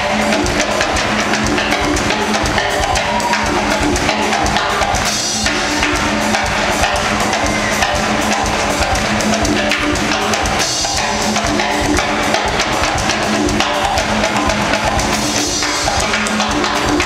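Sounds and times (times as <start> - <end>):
drum kit: 0.0 - 17.0
hand percussion: 0.0 - 17.0.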